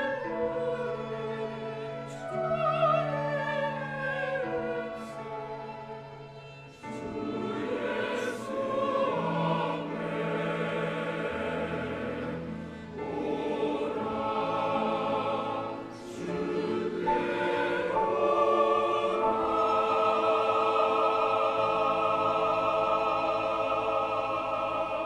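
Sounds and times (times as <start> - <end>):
church choir singing a hymn: 0.0 - 25.0.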